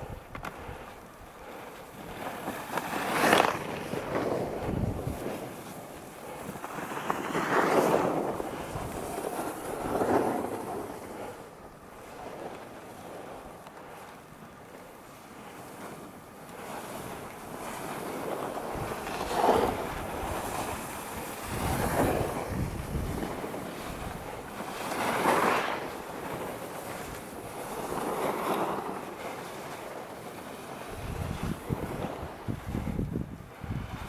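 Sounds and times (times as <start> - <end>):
wind noise on microphone: 0.0 - 5.9, 7.0 - 13.4, 16.6 - 29.7, 30.7 - 34.0
skis scraping on snow: 0.0 - 34.0.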